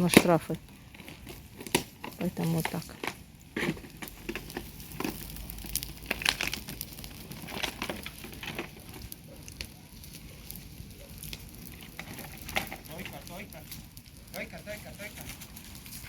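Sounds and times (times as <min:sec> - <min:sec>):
dry weeds crackling and rustling: 0:00.0 - 0:16.0.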